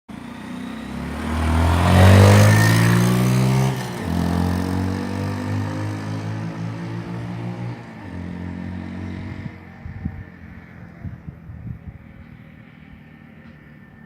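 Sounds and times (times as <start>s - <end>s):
motorcycle engine revving and idling: 0.1s - 14.0s.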